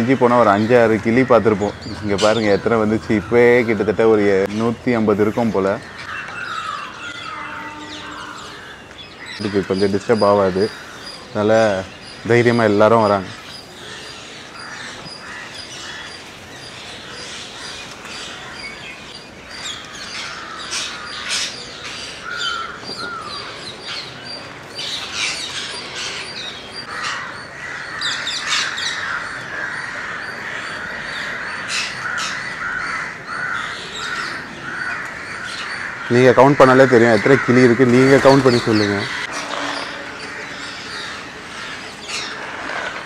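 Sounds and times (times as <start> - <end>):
parakeets screeching: 0.0 - 43.0.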